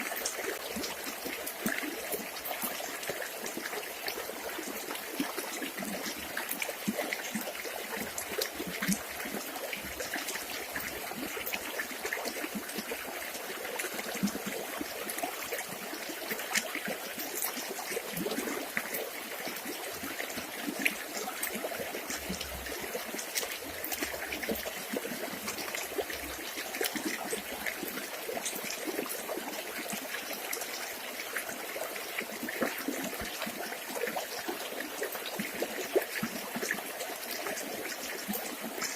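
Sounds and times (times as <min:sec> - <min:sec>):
river water trickling: 0:00.0 - 0:38.9
small splashes and drips: 0:00.0 - 0:38.9.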